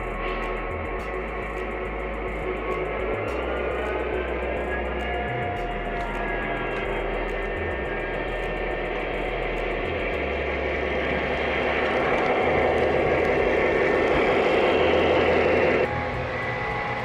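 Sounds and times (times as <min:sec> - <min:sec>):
locomotive motor sounds: 0:00.0 - 0:17.0.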